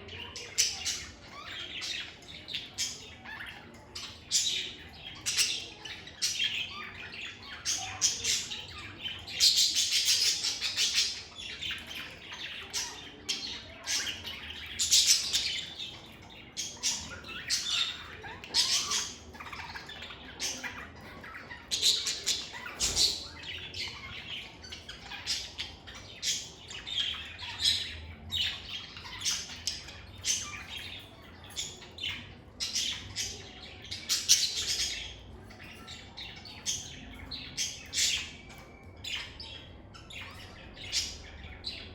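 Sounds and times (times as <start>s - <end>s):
lovebirds chirping and squawking: 0.0s - 41.9s.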